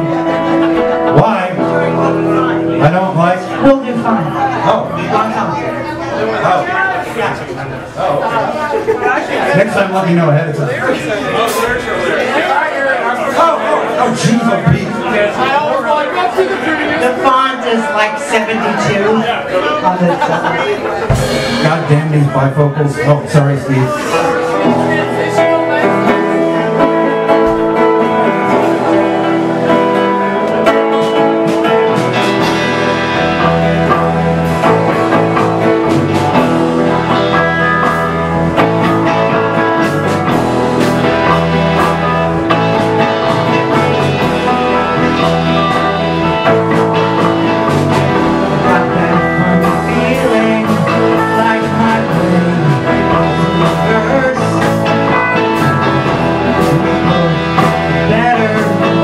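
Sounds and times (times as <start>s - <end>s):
live band with guitar: 0.0s - 59.0s.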